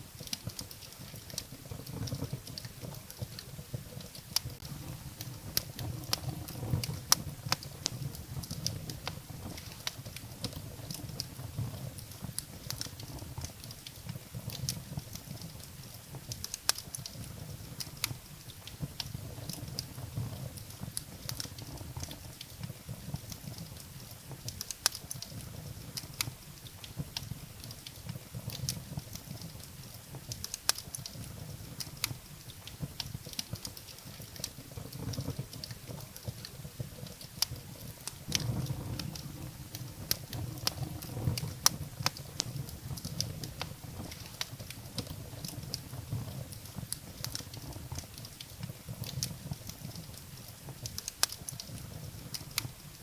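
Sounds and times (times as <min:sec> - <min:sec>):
fire low rumble: 0:00.0 - 0:53.0
firewood crackling and popping: 0:00.0 - 0:53.0.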